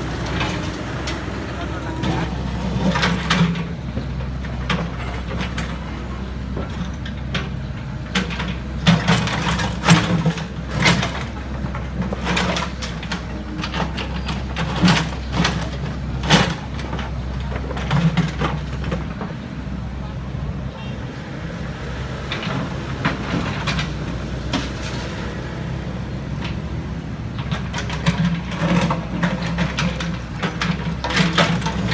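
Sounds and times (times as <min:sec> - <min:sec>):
heavy diesel engine running: 0:00.0 - 0:31.9
sharp knocks and rattles: 0:02.0 - 0:19.4, 0:22.2 - 0:25.4, 0:26.3 - 0:31.9.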